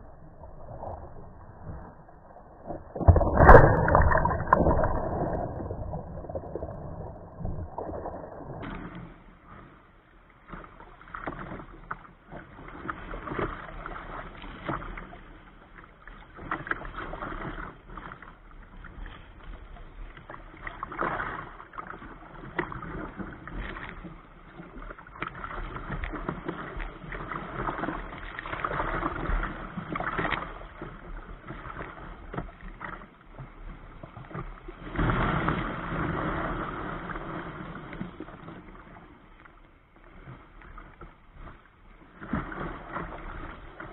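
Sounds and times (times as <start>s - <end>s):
waves splashing against kayak hull: 0.0s - 43.9s.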